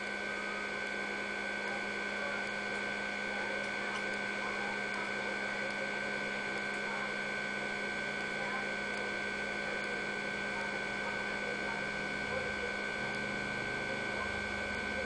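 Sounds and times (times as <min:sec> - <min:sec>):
computer hum: 0:00.0 - 0:15.0.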